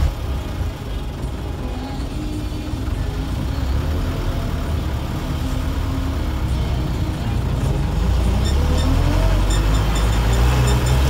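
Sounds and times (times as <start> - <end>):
bus diesel engine rumble: 0.0 - 11.0.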